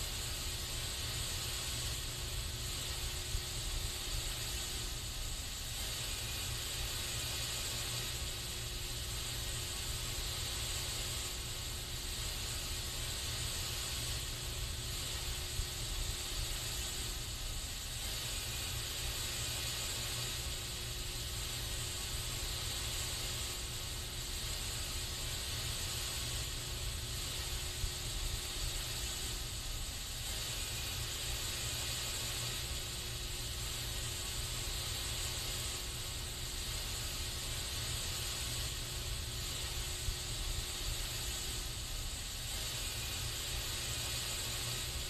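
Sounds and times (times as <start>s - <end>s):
aerosol spray can hissing: 0.0s - 45.0s.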